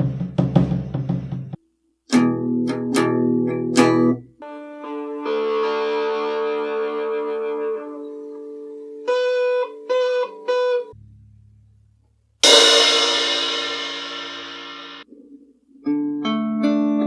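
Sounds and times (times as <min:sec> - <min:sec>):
guitar chords and notes: 0:02.1 - 0:17.0.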